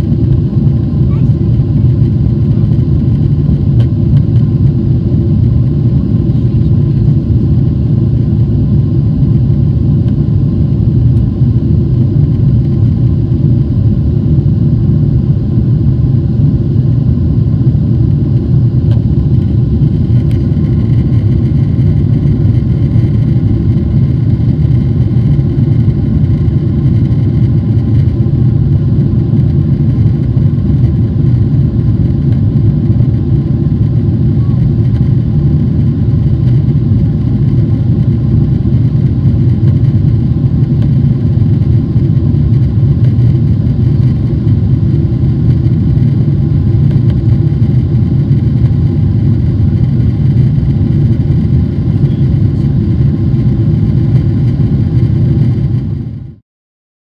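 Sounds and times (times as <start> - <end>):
airplane cabin deep rumble: 0.0 - 56.4.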